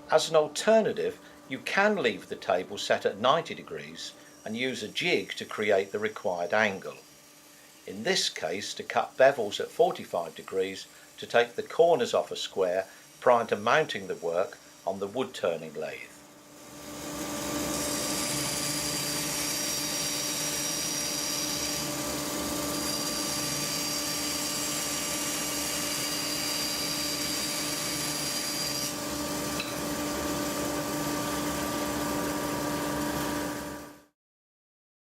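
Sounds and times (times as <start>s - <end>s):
bandsaw cutting wood: 3.2s - 34.1s.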